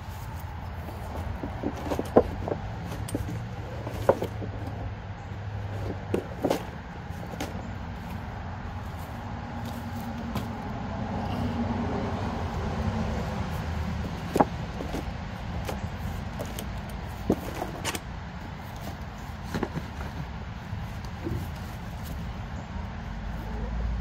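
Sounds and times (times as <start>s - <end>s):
scraping and handling noise: 0.0s - 10.7s, 13.5s - 22.5s.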